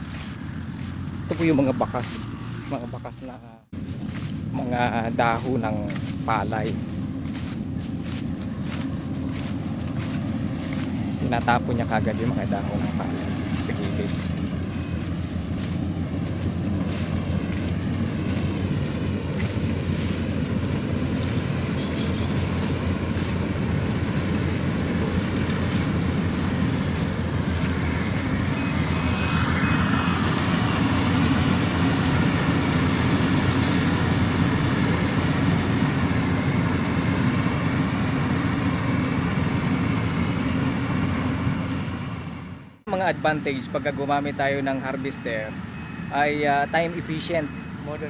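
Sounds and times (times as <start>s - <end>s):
combine harvester engine droning: 0.0s - 48.0s.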